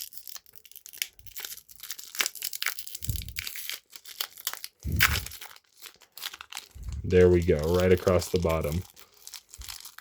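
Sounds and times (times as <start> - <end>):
foil wrapper crinkling and ripping: 0.0 - 10.0.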